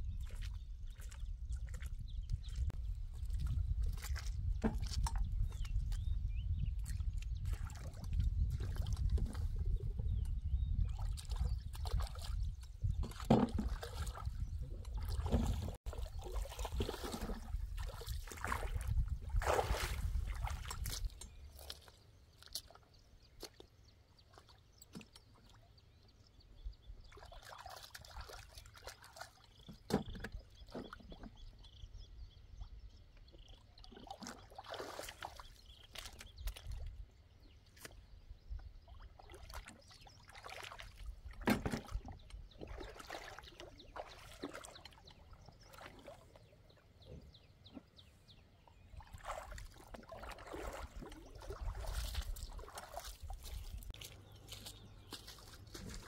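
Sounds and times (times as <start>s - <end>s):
water splashing and sloshing: 0.0s - 56.0s.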